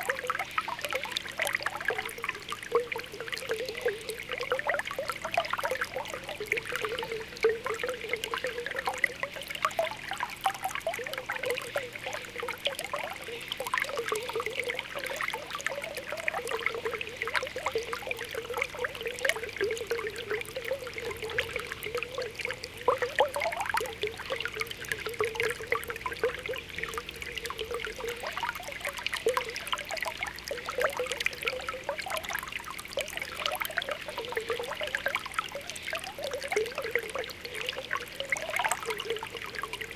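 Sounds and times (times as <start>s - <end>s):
spring water bubbling: 0.0s - 39.9s.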